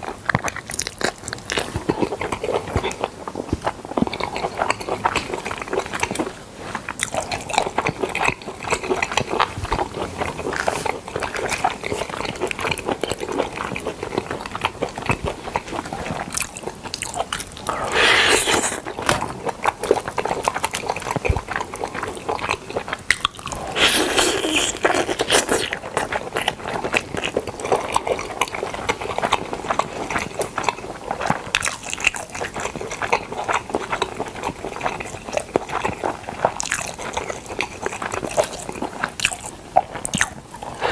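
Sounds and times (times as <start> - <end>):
biting and chewing food: 0.0 - 40.9.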